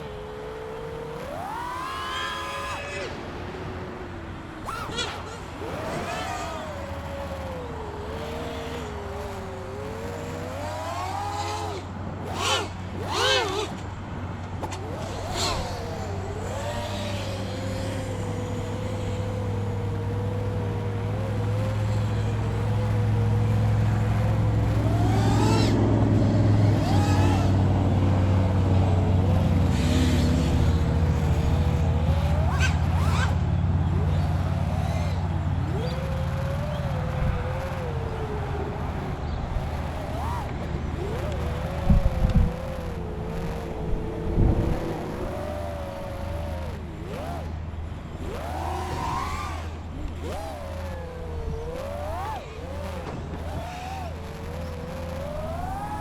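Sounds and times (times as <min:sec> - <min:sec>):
quadcopter propellers buzzing: 0:00.0 - 0:56.0.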